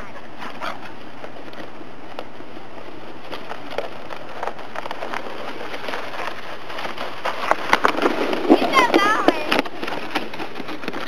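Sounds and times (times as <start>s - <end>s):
sled scraping over snow: 0.0s - 11.0s.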